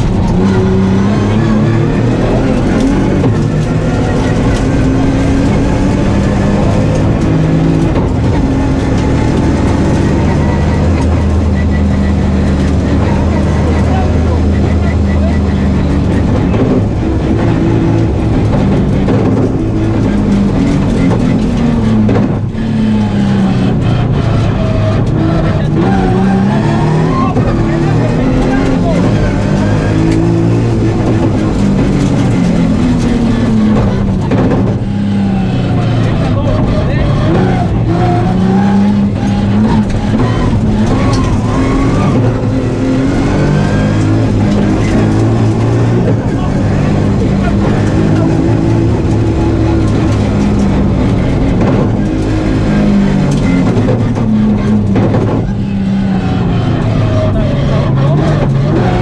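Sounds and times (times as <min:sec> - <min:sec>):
car engine running hard: 0:00.0 - 0:59.0
gear shift: 0:00.0 - 0:59.0
road and tyre noise: 0:00.0 - 0:59.0.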